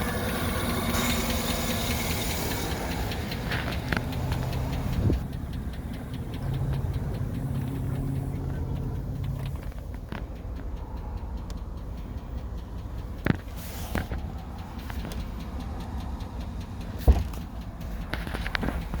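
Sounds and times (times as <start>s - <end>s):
engine ticking: 0.0s - 19.0s
truck engine idling: 0.0s - 19.0s
sharp engine knock: 0.1s - 19.0s.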